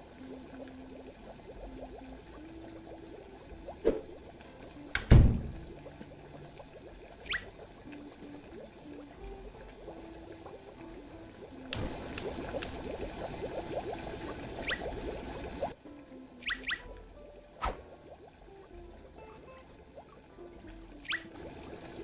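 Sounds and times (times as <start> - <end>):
water boiling in pot: 0.0 - 22.0.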